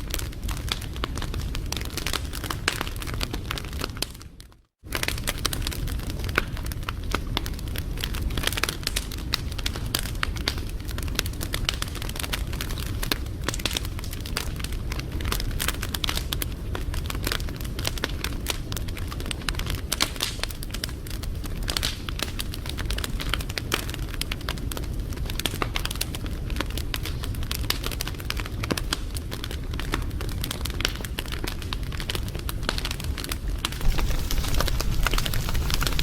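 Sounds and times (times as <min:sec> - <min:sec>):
low rumble of flames: 0:00.0 - 0:04.2, 0:04.9 - 0:36.0
wood fire crackling and popping: 0:00.0 - 0:36.0.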